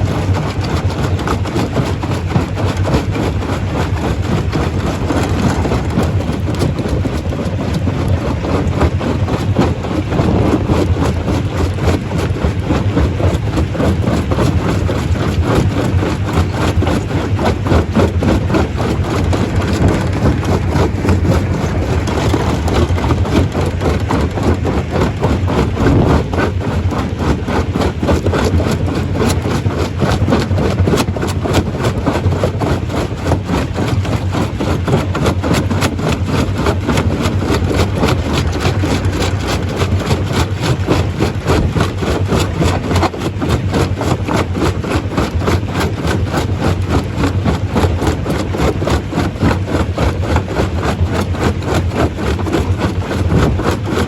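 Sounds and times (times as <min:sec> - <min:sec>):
low machine drone: 0:00.0 - 0:54.0
rapid clatter of rock crushing: 0:00.0 - 0:54.0.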